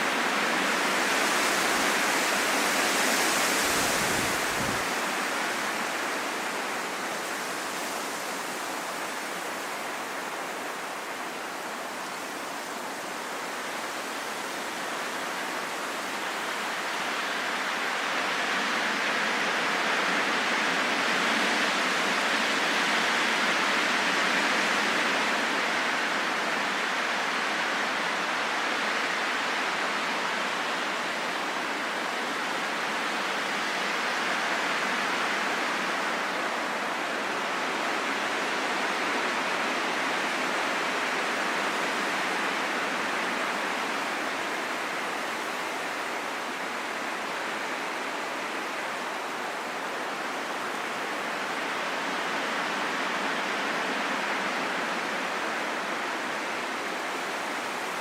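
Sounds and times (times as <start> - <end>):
rushing wind: 0.0 - 58.0.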